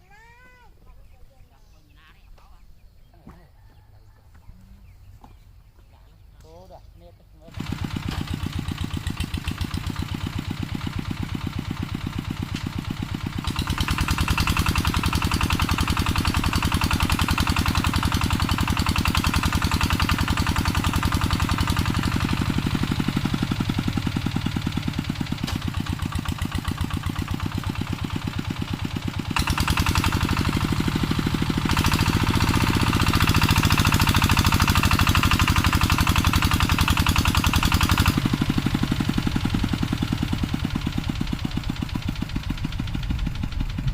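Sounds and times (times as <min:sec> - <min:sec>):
walking tractor engine running: 0:07.5 - 0:43.9.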